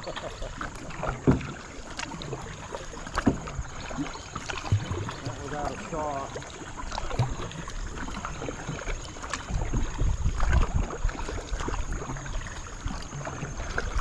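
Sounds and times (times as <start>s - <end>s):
paddle strokes: 0.0s - 14.0s
water splashing and dripping: 0.0s - 14.0s.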